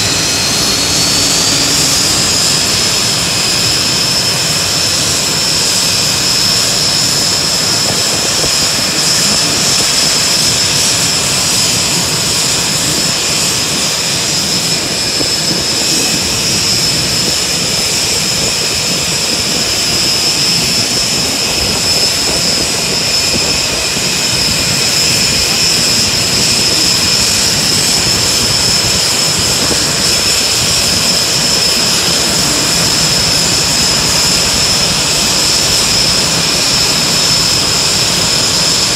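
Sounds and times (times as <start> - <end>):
turbine engine rush and whine: 0.0 - 38.9.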